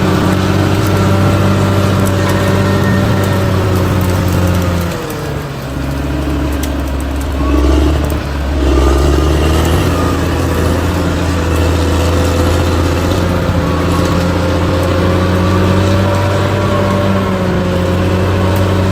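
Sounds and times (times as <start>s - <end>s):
bulldozer diesel engine: 0.0s - 18.9s.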